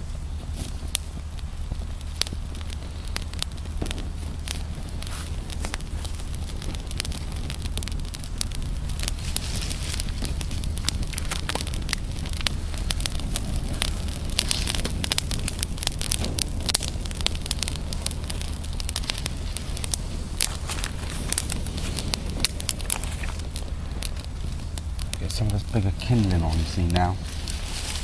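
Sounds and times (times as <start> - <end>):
kindling fire crackling: 0.0 - 28.0.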